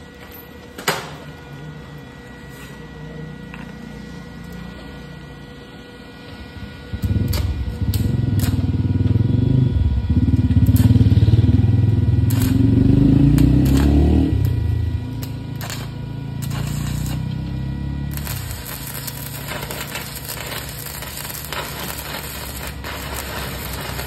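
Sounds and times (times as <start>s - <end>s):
engine running low pulsing: 3.4s - 24.0s.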